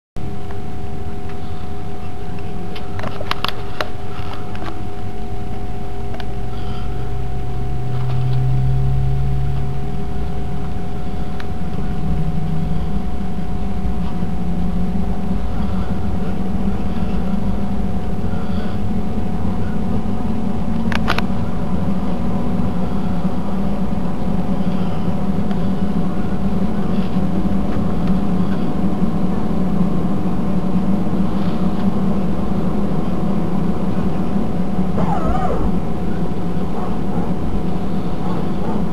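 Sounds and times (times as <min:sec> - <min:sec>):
jet engines humming: 0:00.2 - 0:38.9.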